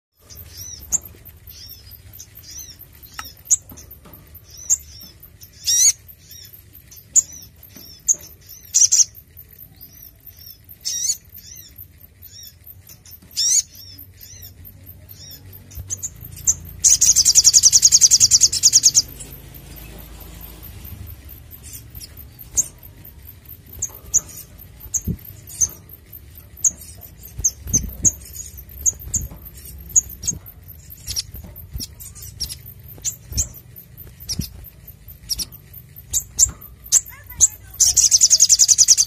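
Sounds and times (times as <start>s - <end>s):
sunbird chirping: 0.1s - 39.0s
bird fast trill: 0.2s - 39.0s.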